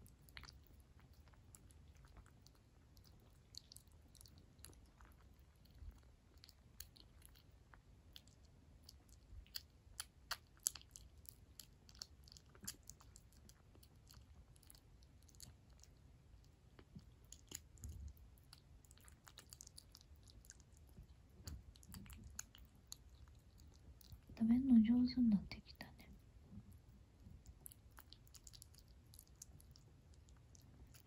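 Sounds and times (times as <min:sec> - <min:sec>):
kitten chewing and licking food: 0:00.0 - 0:31.0.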